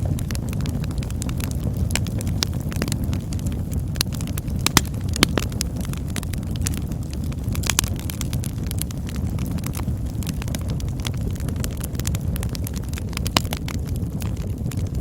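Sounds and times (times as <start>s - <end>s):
burning wood crackling and popping: 0.0s - 15.0s
campfire low rumble: 0.0s - 15.0s.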